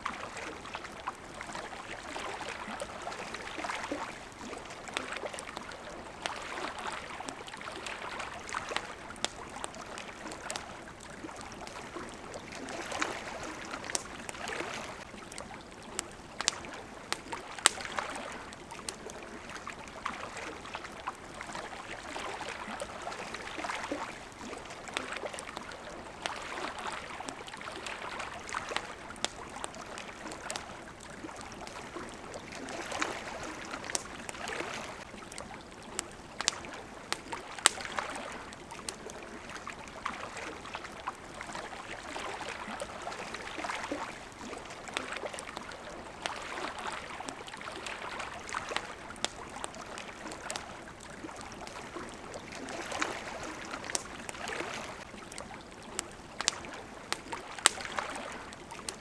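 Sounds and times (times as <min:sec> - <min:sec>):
campfire crackling and popping: 0:00.0 - 0:59.0
gently moving water: 0:00.0 - 0:59.0.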